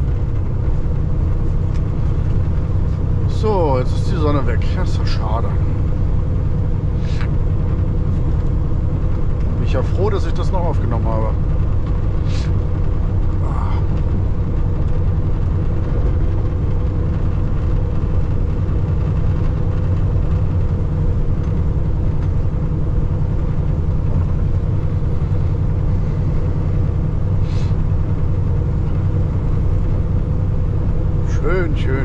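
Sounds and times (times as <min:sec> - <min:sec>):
road noise: 0:00.0 - 0:32.0
truck diesel engine droning: 0:00.0 - 0:32.0.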